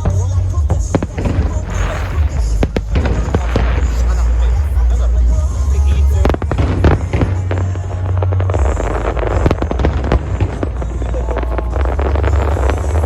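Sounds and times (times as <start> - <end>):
fireworks bangs and crackles: 0.0 - 13.0
show music with heavy bass: 0.0 - 13.0.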